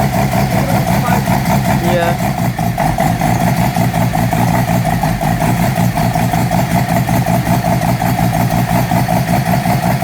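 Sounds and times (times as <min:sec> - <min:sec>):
rotary engine choppy idle: 0:00.0 - 0:10.0.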